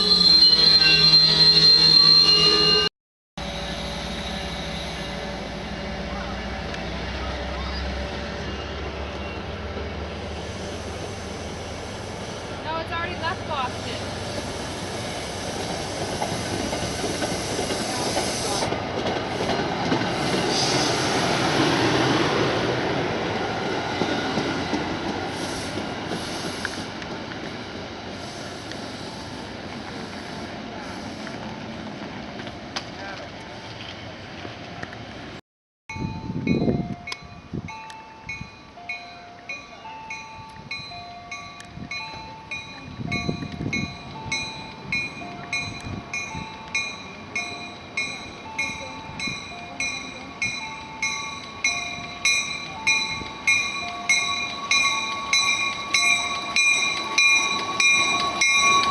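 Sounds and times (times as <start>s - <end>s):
train rumbling on rails: 0.0s - 58.9s.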